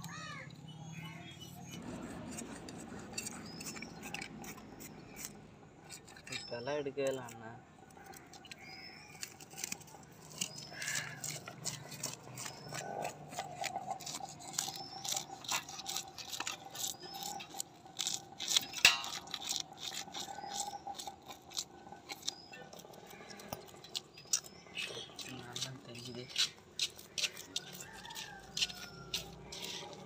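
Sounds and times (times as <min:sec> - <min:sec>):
knife scraping fish scales: 0:00.9 - 0:30.0.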